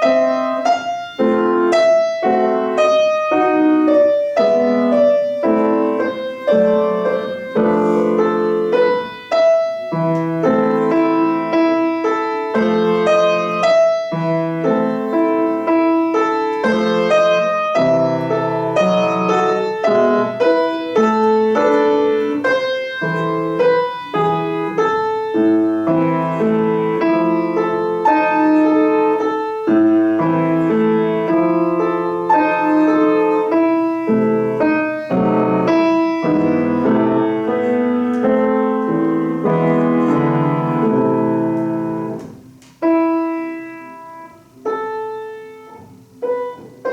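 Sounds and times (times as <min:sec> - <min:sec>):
solo piano playing: 0:00.0 - 0:46.9.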